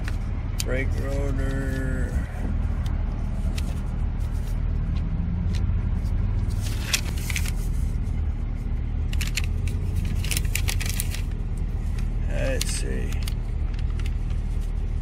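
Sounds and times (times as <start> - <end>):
paper receipt crinkling: 0.0 - 5.0, 6.0 - 8.1, 9.0 - 15.0
car engine running: 0.0 - 15.0.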